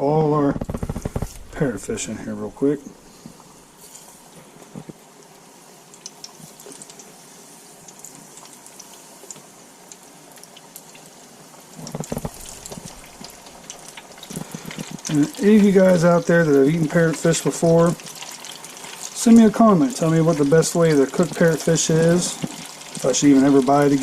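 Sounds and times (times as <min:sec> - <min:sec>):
fish frying in hot oil: 0:00.6 - 0:01.6, 0:02.6 - 0:24.0.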